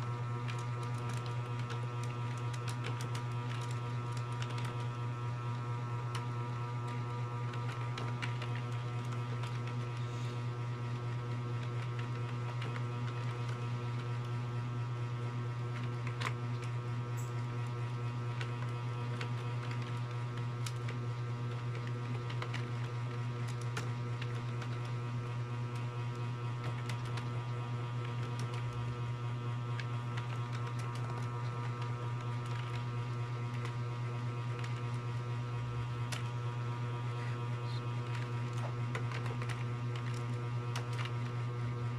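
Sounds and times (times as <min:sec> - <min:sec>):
low electrical hum: 0:00.0 - 0:41.9.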